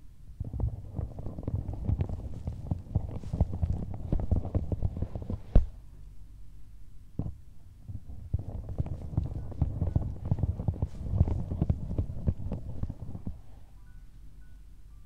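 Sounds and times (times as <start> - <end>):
fingertips tapping on microphone: 0.4 - 5.8, 7.2 - 14.1.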